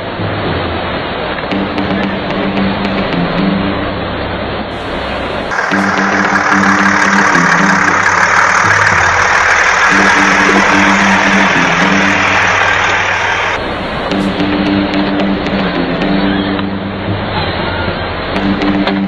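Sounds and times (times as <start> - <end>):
background music: 0.0 - 19.0
heavy vehicle engine running: 0.0 - 19.0.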